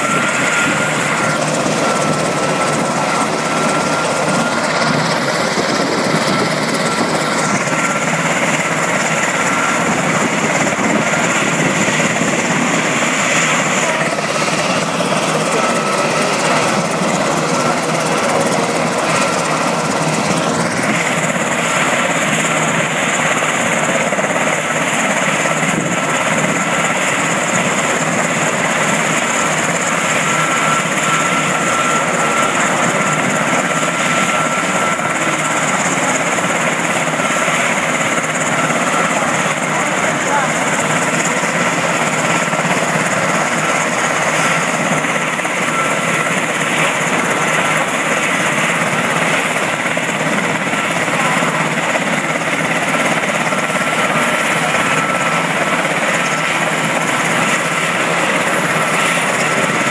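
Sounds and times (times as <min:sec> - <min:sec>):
helicopter engines running: 0:00.0 - 0:59.9
high turbine whine: 0:00.0 - 0:59.9.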